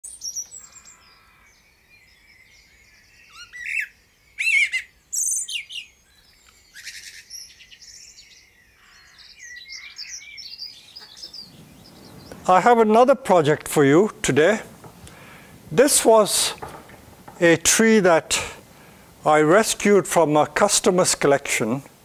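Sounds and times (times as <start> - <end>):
birds singing and chirping: 0.0 - 22.0.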